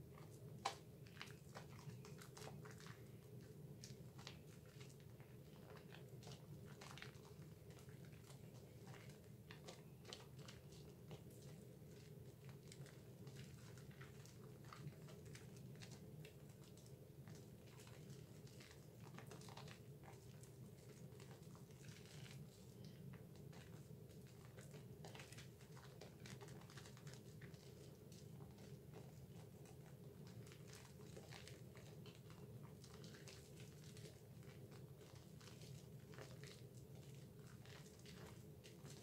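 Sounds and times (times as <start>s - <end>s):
soap lather squishing between hands: 0.0s - 39.0s.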